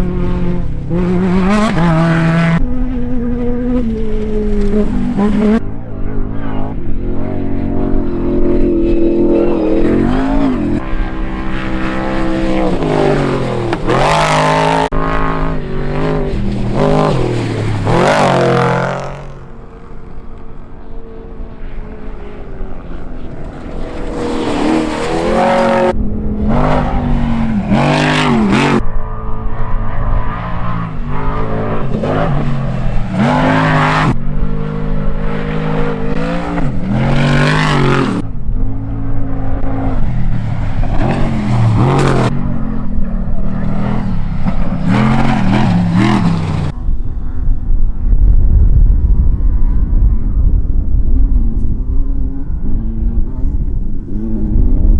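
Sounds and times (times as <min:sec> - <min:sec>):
engines revving hard: 0:00.0 - 0:46.9.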